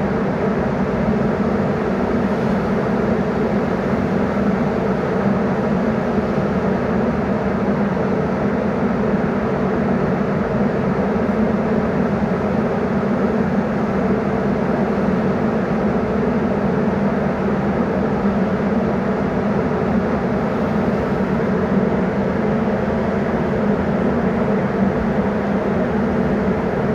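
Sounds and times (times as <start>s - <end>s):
ventilation fan drone: 0.0s - 26.9s.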